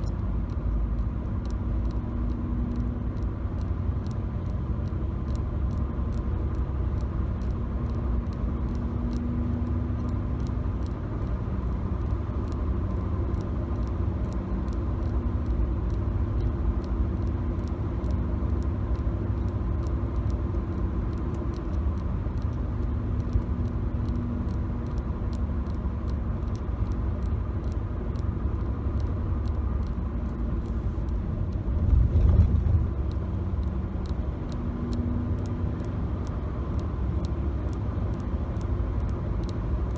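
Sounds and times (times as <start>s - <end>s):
car road and engine rumble: 0.0s - 39.9s
faint light ticks: 0.0s - 39.9s.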